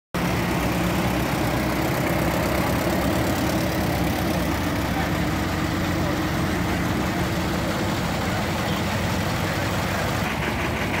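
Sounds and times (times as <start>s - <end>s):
tractor engines running: 0.2s - 11.0s.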